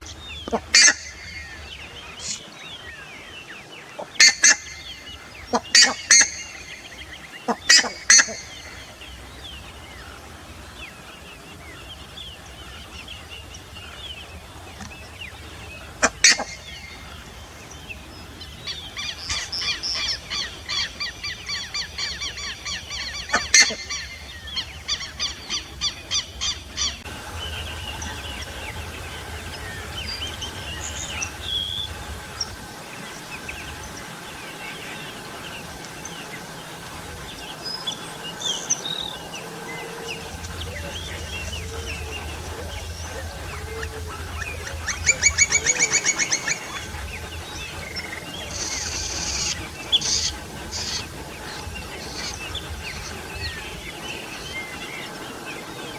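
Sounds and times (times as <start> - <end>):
ibises calling loudly: 0.0 - 55.5.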